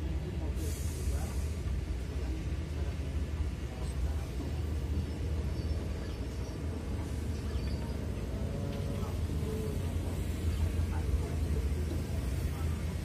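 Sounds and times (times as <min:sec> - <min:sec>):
heavy diesel machinery rumble: 0:00.0 - 0:13.0.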